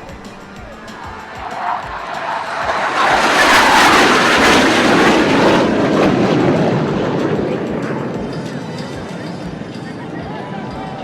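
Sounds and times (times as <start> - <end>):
jets passing low overhead: 0.0 - 11.0.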